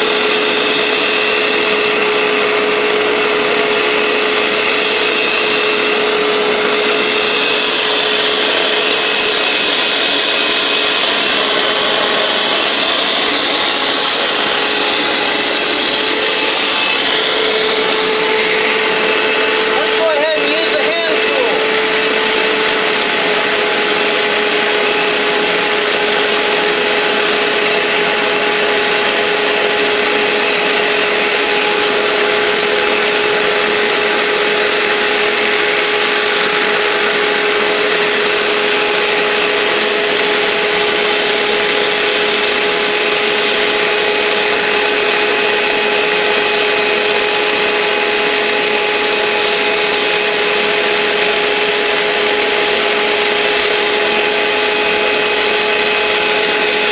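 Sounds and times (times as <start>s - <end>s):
carpet cleaner running: 0.0s - 56.9s.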